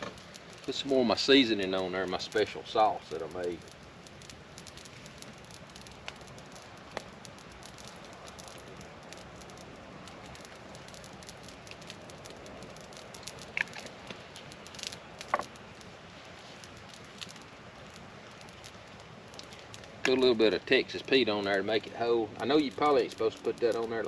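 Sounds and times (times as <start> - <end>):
campfire crackling: 0.0 - 24.0
rain pattering: 0.0 - 24.0.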